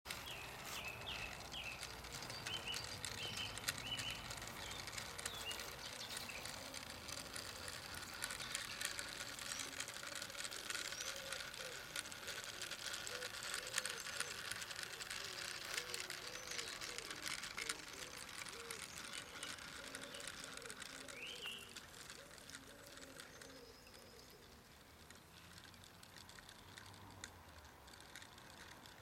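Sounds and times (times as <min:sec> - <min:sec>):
birds chirping: 0:00.0 - 0:26.9
wheels clicking on rails: 0:00.0 - 0:29.0.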